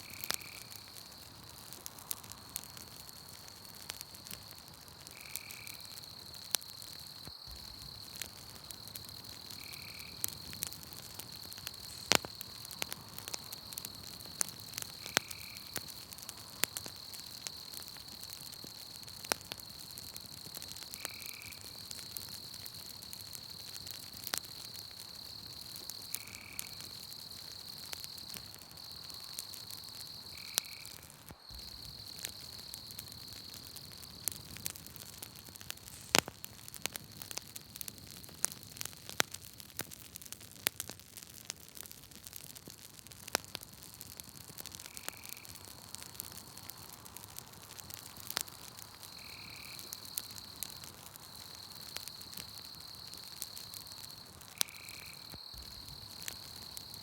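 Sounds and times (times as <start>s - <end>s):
night insects trilling: 0.0s - 40.4s, 42.2s - 57.0s
campfire crackling and popping: 0.0s - 57.0s.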